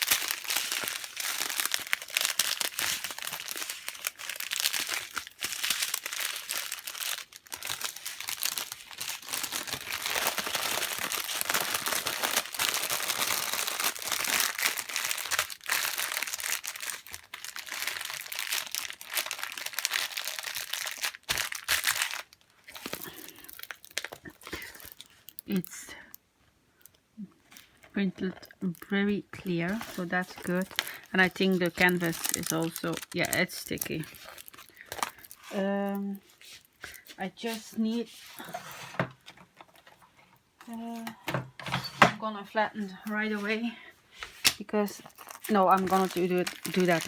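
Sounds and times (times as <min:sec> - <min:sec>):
plastic packaging crinkling: 0:00.0 - 0:26.1, 0:26.8 - 0:41.2, 0:42.9 - 0:47.0.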